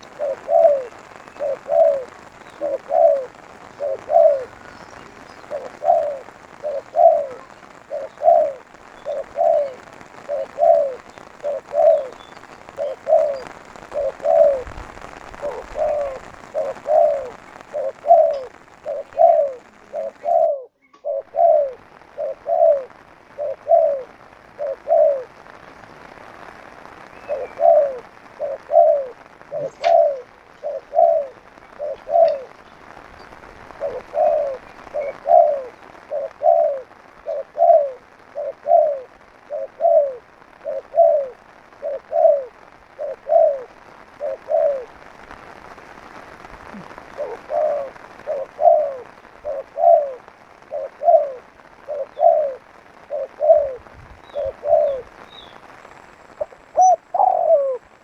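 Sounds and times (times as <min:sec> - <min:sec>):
dove cooing: 0:00.0 - 0:45.1, 0:46.2 - 0:58.0.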